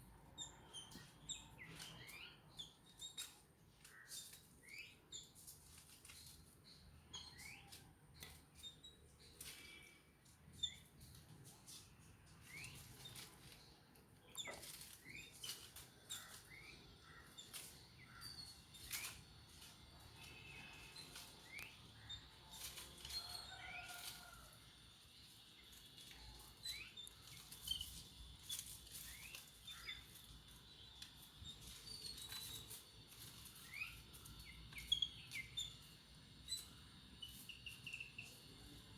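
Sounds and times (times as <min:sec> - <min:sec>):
birds chirping faintly: 0:00.0 - 0:38.9.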